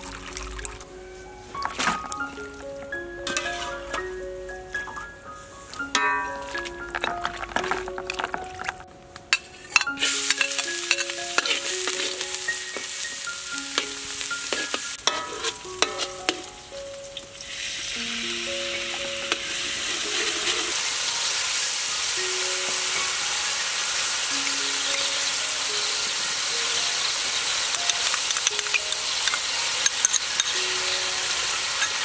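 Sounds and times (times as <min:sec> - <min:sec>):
oil sizzling in a wok: 0:03.2 - 0:07.5, 0:09.3 - 0:32.0.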